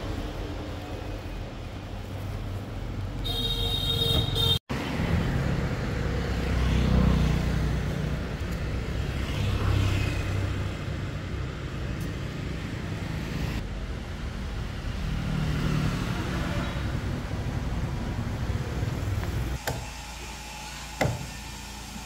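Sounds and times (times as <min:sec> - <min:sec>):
traffic engines rumbling: 0:00.0 - 0:19.6.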